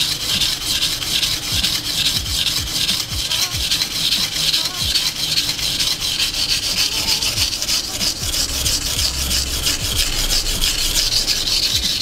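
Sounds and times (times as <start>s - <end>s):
knife scraping on whetstone: 0.0s - 12.0s.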